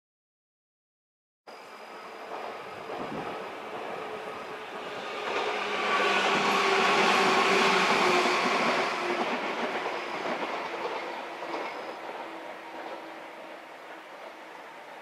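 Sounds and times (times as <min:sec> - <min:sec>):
electric train passing: 0:01.5 - 0:15.0.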